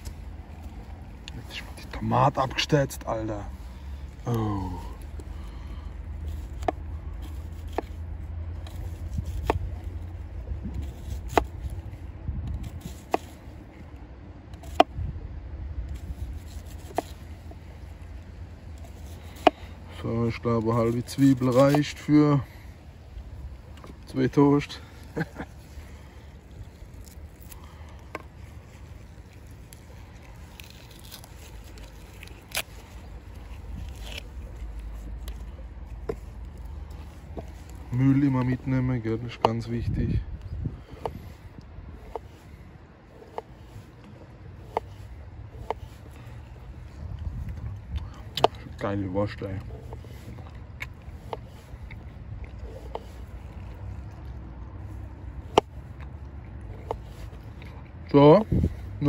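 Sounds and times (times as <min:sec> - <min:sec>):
soft rubbing and scraping: 0:00.0 - 0:14.8, 0:15.9 - 0:59.0
steady low rumble: 0:00.0 - 0:59.0.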